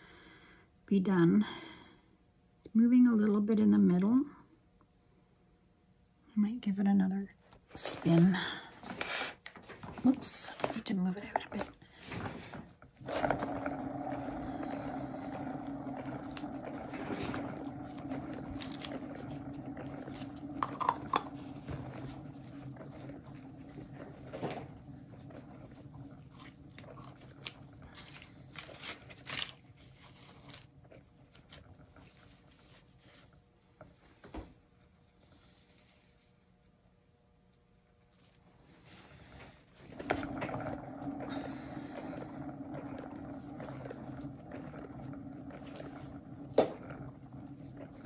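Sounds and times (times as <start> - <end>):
turntable whirring hum: 7.5 - 35.9, 37.7 - 48.0.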